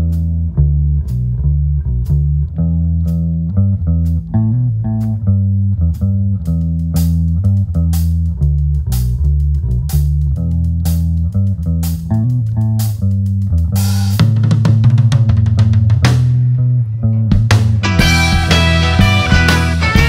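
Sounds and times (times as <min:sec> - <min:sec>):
bass guitar low notes: 0:00.0 - 0:20.0
picked guitar line: 0:00.0 - 0:20.0.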